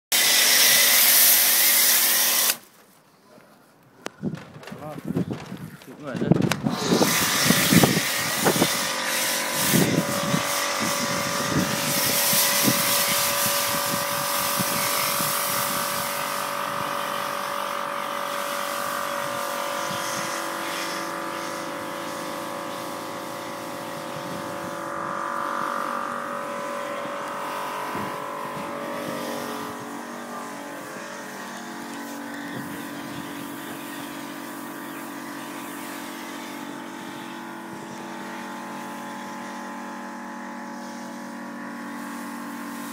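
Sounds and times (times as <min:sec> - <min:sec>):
foam lance spraying with hiss: 0:00.1 - 0:02.8, 0:06.6 - 0:42.9
steady motor hum: 0:05.0 - 0:42.9.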